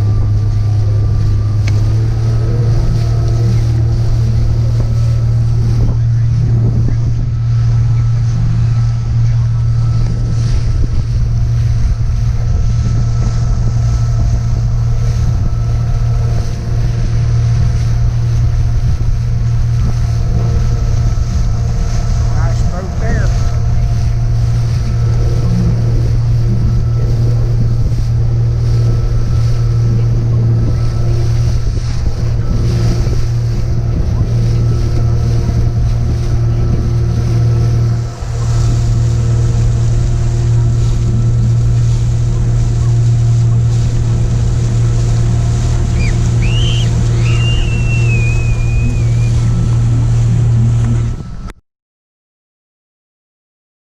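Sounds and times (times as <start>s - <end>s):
boat motor running: 0.0s - 51.6s
water noise from hull: 0.0s - 51.6s
wind on microphone: 0.0s - 51.6s.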